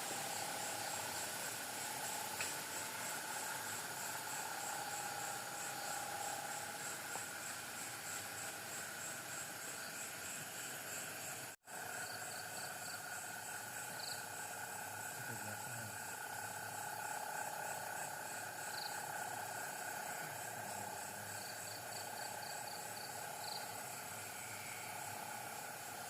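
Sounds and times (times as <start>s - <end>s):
continuous hiss: 0.0s - 26.0s
night insects chirring: 0.0s - 26.0s.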